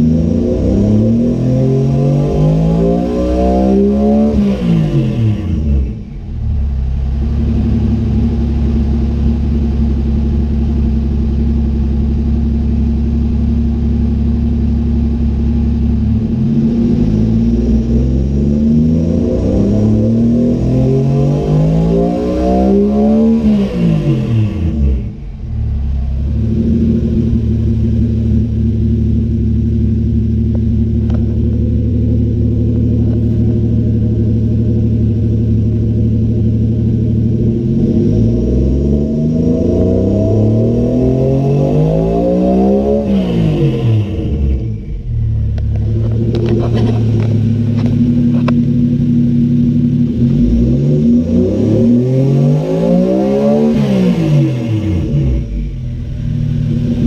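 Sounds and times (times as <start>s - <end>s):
car engine revving and idling: 0.0s - 57.0s.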